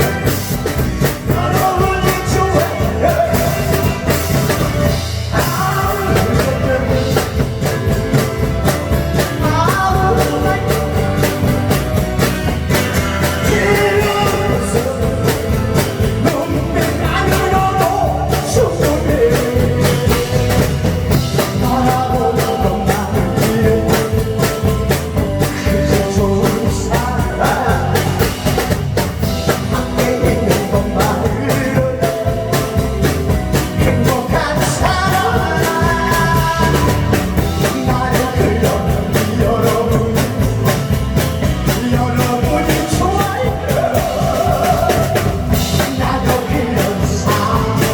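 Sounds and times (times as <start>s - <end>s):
driving drum beat: 0.0s - 47.9s
person singing: 0.0s - 47.9s.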